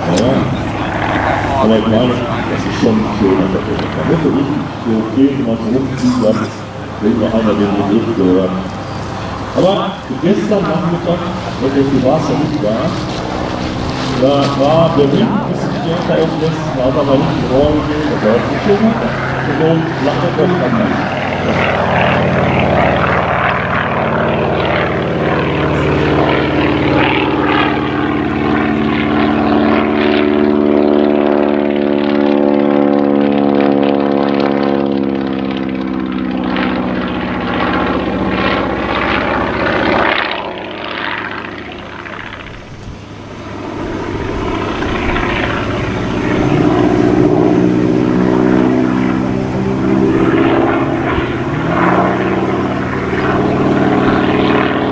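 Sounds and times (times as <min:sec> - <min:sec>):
model airplane engine: 0:00.0 - 0:54.9.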